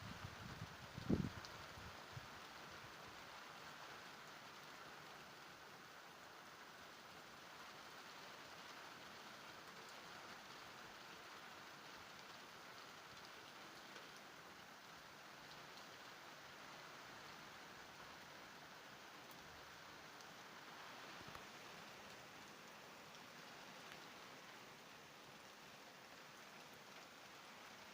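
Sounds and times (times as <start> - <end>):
faint steady rain: 0.0 - 27.9.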